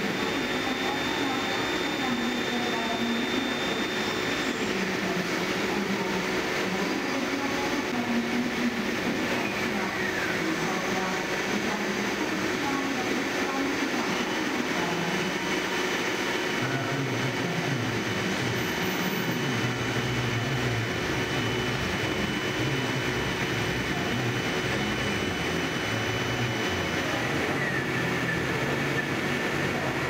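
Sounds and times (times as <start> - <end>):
lathe humming: 0.0 - 7.9, 13.2 - 30.0
high whine: 0.0 - 30.0.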